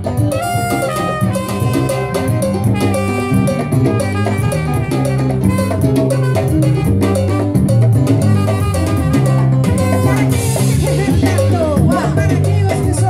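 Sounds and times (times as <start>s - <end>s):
trumpet melody: 0.0s - 12.8s
salsa band playing: 0.0s - 13.0s.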